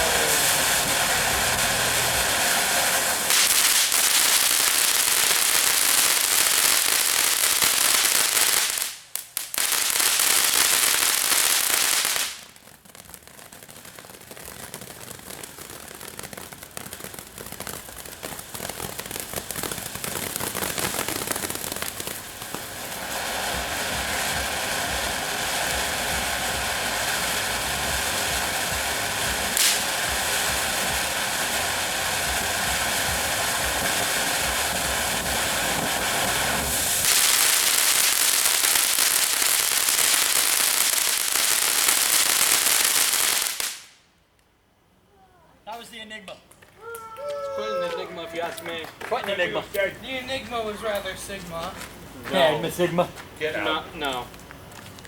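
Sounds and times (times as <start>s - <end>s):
firework fountain hissing: 0.0s - 44.2s, 45.8s - 55.0s
firework crackle: 0.0s - 55.0s.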